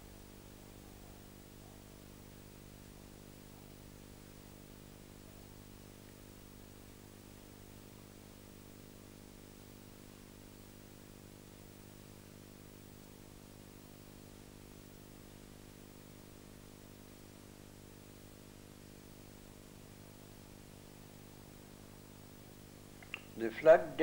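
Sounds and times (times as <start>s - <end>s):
faint electrical hum with hiss: 0.0s - 24.0s.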